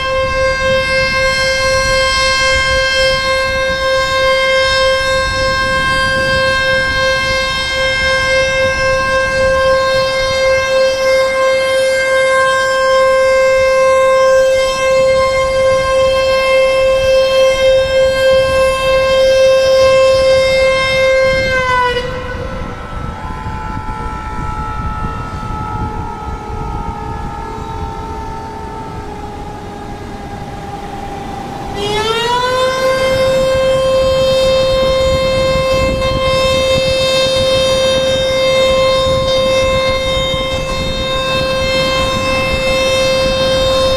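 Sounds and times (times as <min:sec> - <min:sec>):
warning siren: 0:00.0 - 0:43.9.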